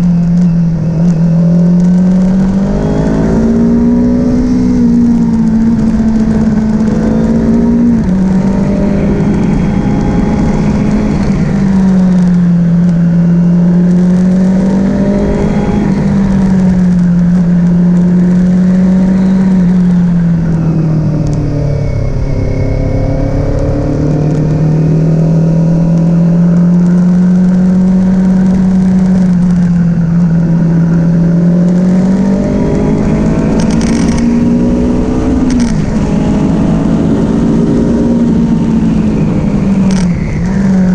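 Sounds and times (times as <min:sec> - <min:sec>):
constant rushing noise: 0:00.0 - 0:40.9
motorcycle engine running: 0:00.0 - 0:40.9.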